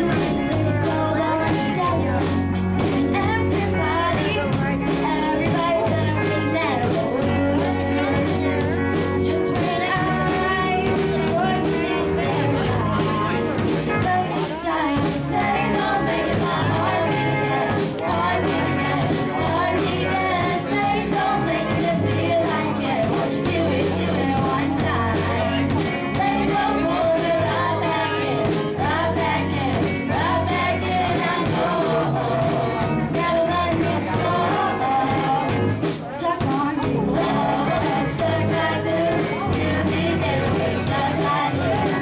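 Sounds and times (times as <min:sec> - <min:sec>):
girl singing lead: 0:00.0 - 0:42.0
live rock band playing: 0:00.0 - 0:42.0.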